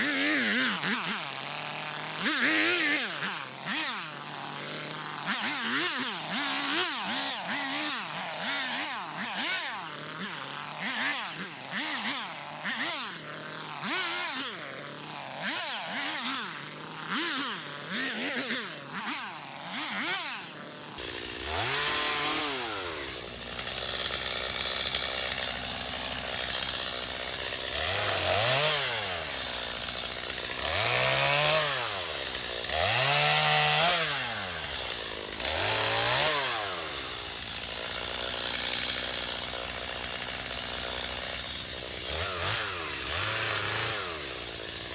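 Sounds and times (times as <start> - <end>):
chainsaw revving: 0.0 - 44.9.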